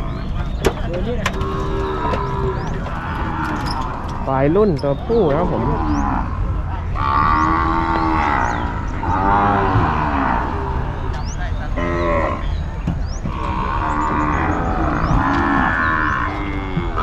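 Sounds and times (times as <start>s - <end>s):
cattle mooing: 1.3s - 4.6s, 5.2s - 11.2s, 11.8s - 12.5s, 13.3s - 17.0s.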